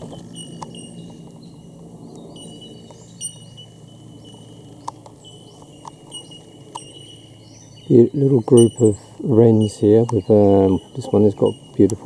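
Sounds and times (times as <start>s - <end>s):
bird chirps and calls: 0.0s - 12.0s
high-pitched insect drone: 0.0s - 12.0s.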